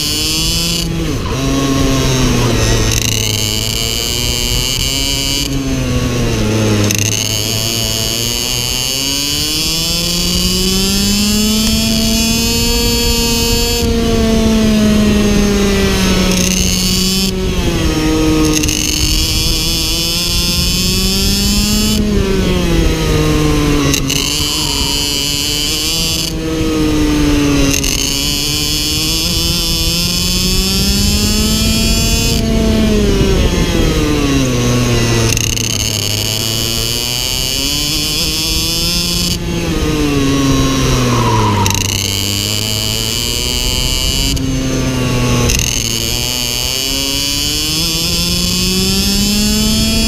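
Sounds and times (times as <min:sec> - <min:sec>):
kart engine racing: 0:00.0 - 0:50.0.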